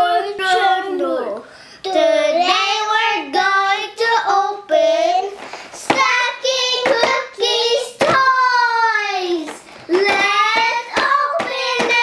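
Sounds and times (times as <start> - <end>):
girls singing: 0.0 - 12.0.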